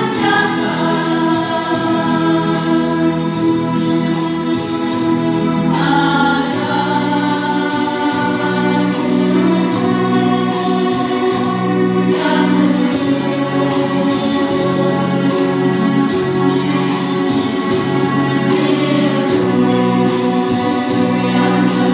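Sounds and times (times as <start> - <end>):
children's choir singing: 0.0 - 21.9
keyboard accompaniment: 0.0 - 21.9.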